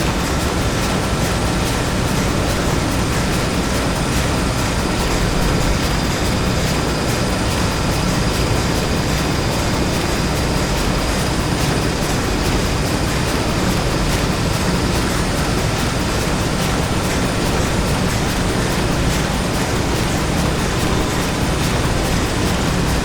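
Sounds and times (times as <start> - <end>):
factory machinery din: 0.0 - 23.0
faint ticking clatter: 0.0 - 23.0.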